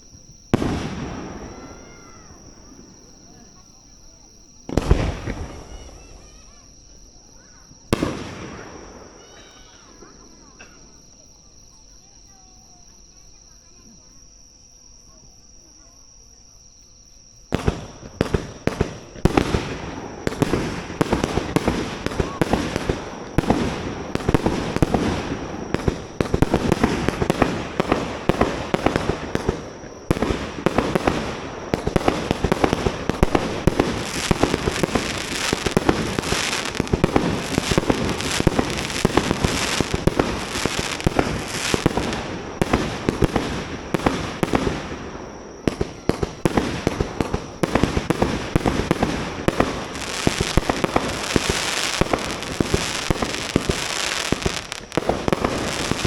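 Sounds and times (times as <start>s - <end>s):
fireworks crackling and popping: 0.0s - 11.3s, 17.4s - 56.0s.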